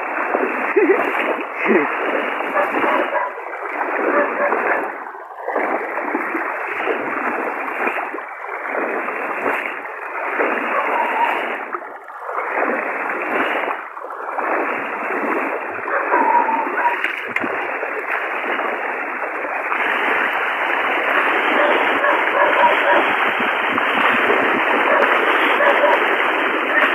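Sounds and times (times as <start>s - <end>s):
floodwater rushing and splashing: 0.0s - 26.9s.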